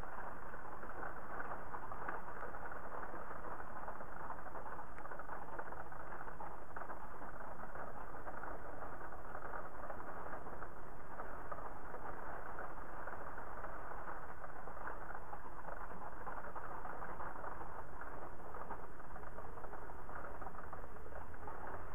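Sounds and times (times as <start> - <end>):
steady rain pattering: 0.0 - 21.9.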